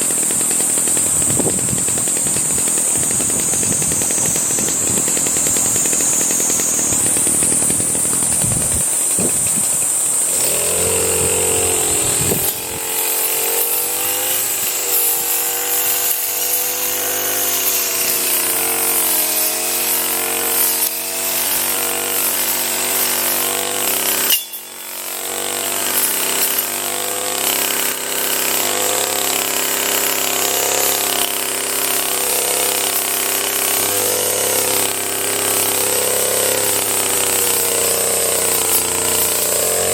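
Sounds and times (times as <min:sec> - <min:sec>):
two-stroke power tool engine: 0:00.0 - 0:39.9.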